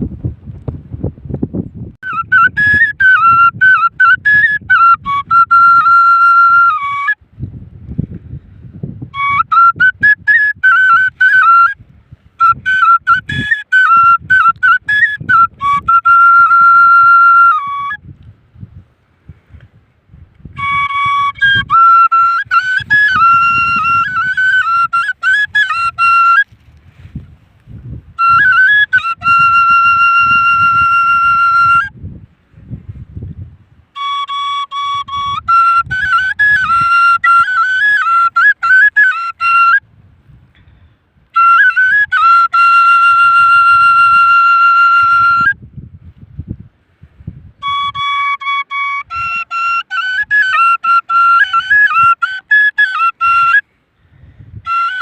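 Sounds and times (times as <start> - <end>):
flute playing a folk melody: 2.0 - 7.3, 8.1 - 18.3, 20.3 - 46.2, 46.9 - 55.0.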